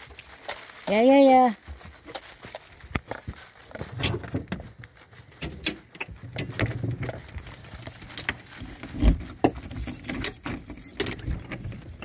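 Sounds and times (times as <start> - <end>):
keys jangling in lock: 1.7 - 4.6, 5.2 - 12.0.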